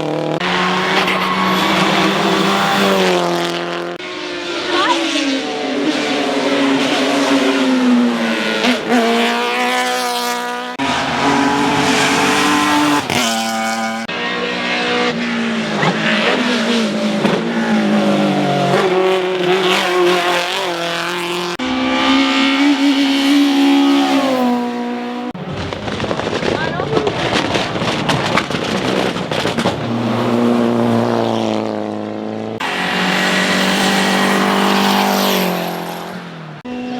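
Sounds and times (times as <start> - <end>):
race car engines revving: 0.0 - 36.9.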